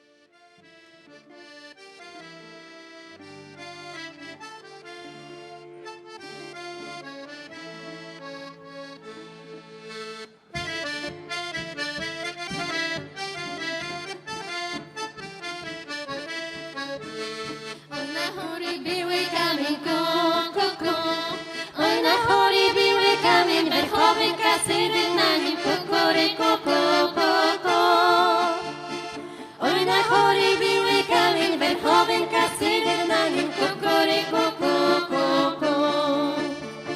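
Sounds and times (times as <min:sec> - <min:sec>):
accordion playing folk tune: 0:00.0 - 0:36.9.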